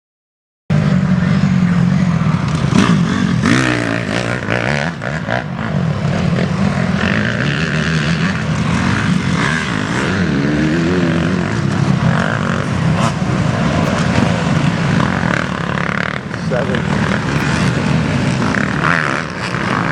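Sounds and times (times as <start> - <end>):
dirt bikes revving while racing: 0.7 - 19.9.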